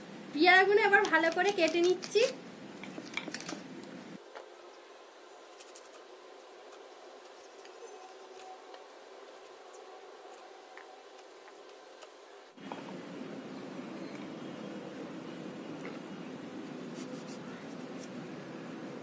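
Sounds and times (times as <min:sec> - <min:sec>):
low steady hiss: 0:00.0 - 0:19.0.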